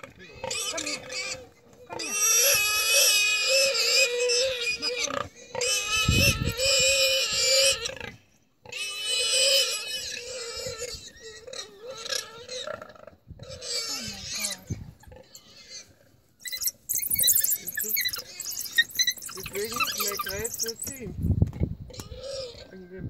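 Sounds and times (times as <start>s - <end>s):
warthog squealing in distress: 0.0s - 21.1s, 21.9s - 22.8s.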